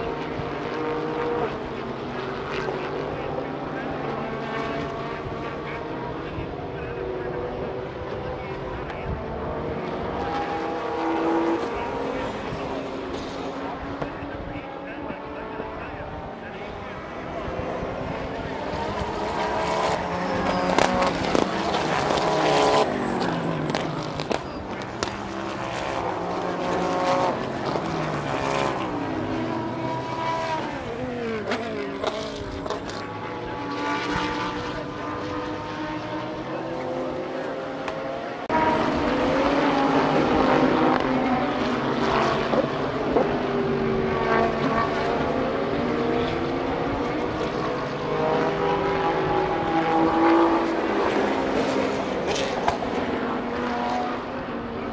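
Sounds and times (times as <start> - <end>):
race cars passing: 0.0 - 54.9.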